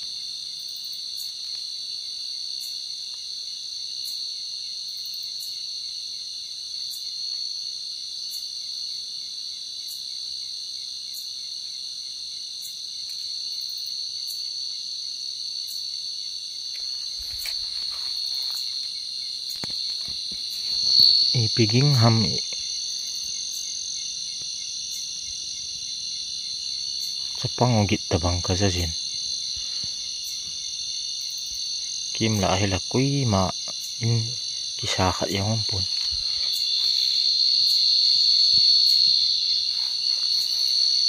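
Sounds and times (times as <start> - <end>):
night insects trilling: 0.0 - 41.0.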